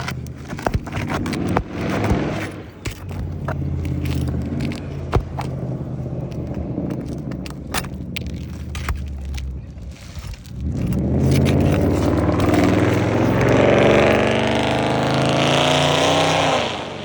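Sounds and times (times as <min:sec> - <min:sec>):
engine drone: 0:00.0 - 0:17.0
flat bar scraping roof shingles: 0:00.0 - 0:17.0.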